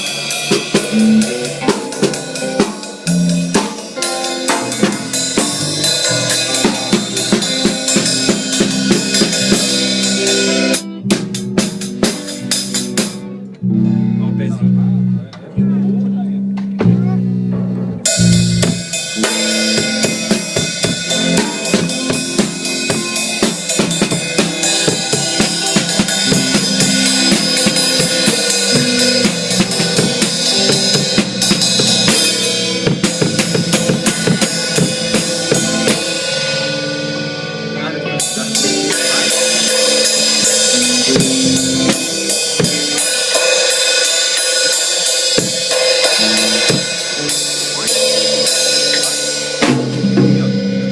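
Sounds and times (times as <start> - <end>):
drum kit beat: 0.0 - 15.2, 16.4 - 50.9
band music: 0.0 - 50.9.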